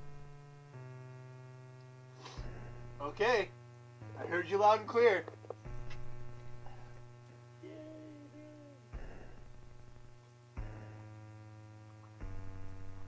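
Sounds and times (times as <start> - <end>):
electronic keyboard chords: 0.0 - 13.0.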